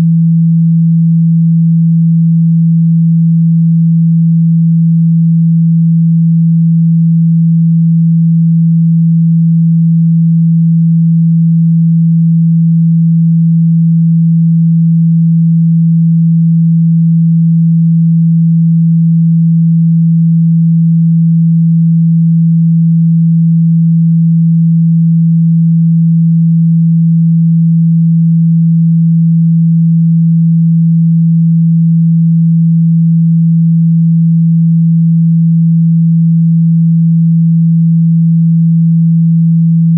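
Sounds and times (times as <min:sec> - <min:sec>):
low-pitched sine tone: 0:00.0 - 0:39.9.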